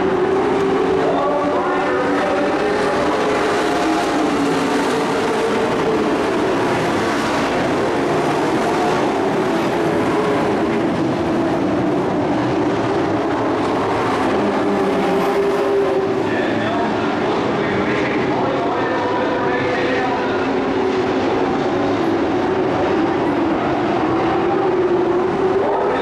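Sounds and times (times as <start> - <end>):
race truck engines droning: 0.0 - 26.0.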